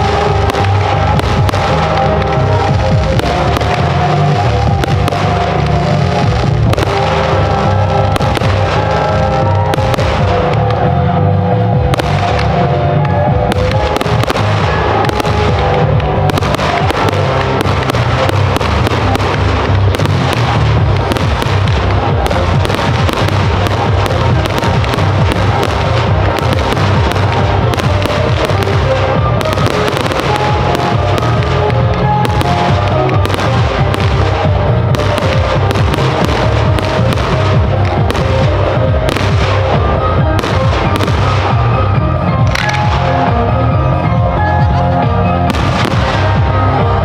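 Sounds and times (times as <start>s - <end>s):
aerial fireworks bursting: 0.0s - 43.4s, 45.5s - 47.0s
music: 0.0s - 47.0s.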